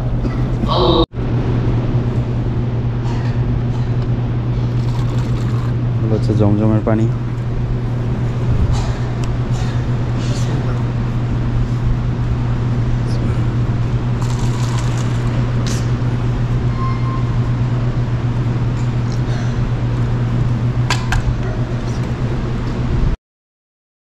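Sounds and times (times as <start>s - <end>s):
low hum: 0.0s - 23.2s.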